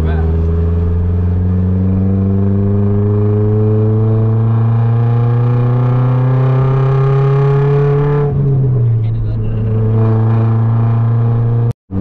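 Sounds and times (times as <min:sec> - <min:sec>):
car engine and exhaust pulling: 0:00.0 - 0:12.0.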